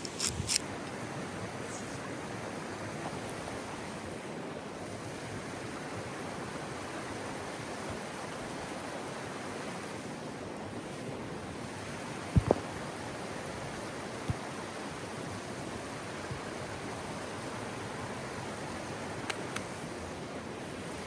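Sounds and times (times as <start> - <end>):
stream running water: 0.0 - 21.0.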